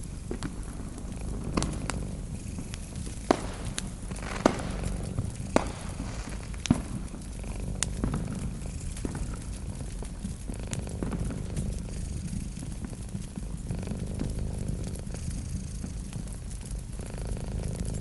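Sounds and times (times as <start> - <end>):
cat purring: 0.0 - 18.0
fire crackling and popping: 0.0 - 18.0.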